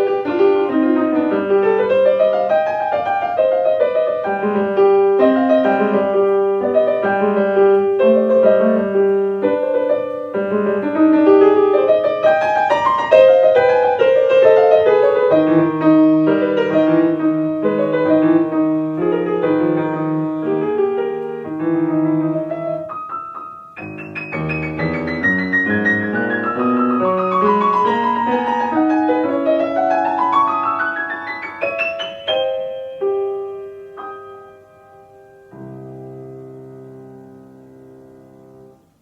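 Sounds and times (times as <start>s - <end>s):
solo piano playing: 0.0s - 39.0s.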